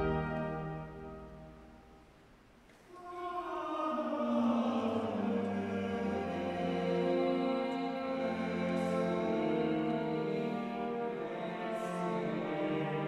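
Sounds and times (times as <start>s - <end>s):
mixed choir singing chords: 0.0s - 1.7s, 2.9s - 13.0s.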